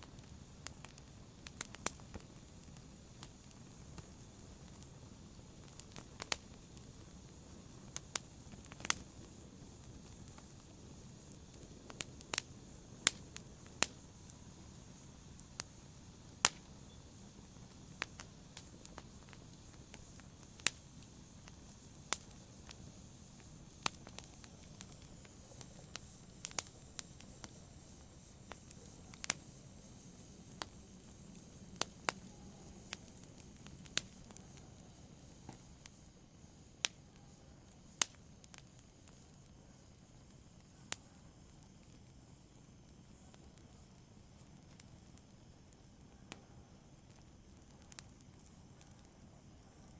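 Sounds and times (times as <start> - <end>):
fire crackling and popping: 0.0 - 49.9
low rustle of flames: 0.0 - 49.9.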